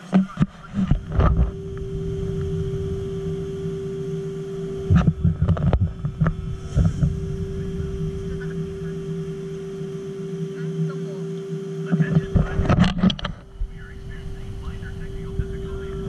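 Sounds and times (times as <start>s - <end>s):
machinery hum with held tone: 0.0s - 16.0s.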